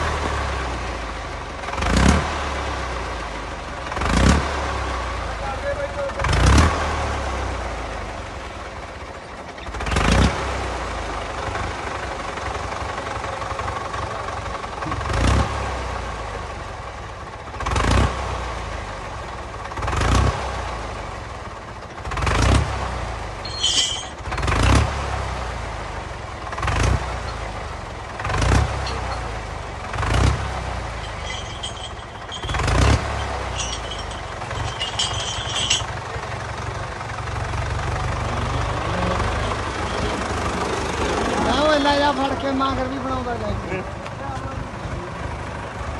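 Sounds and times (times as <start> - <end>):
tractor engine surging: 6.0 - 45.9.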